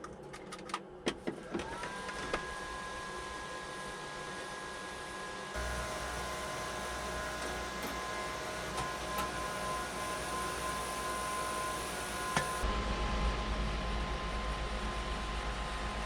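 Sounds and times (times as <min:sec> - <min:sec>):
electric fan hiss and whine: 0:02.1 - 0:16.0.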